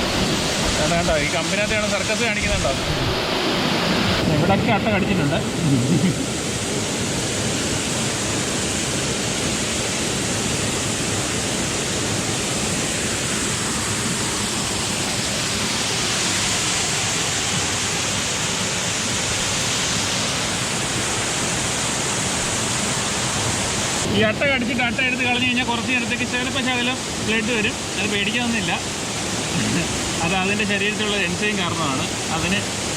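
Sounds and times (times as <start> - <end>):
waterfall pouring onto rocks: 0.0 - 2.8, 6.3 - 32.9.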